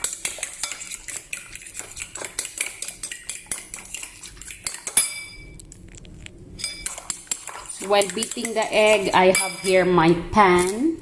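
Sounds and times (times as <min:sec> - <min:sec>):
utensil clinking against bowl: 0:00.0 - 0:05.6, 0:06.6 - 0:11.0.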